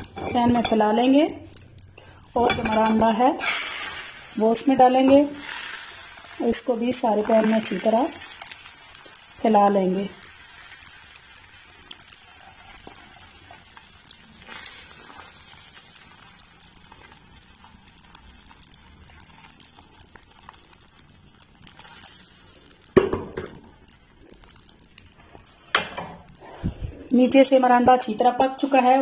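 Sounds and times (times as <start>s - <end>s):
egg sizzling in hot oil: 0.0s - 29.0s.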